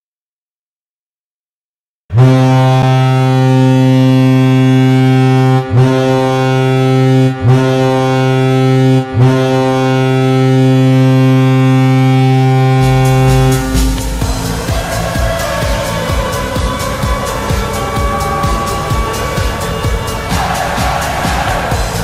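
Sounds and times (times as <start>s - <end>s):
deep goal horn blasts: 2.1s - 22.0s
arena goal song: 2.2s - 22.0s.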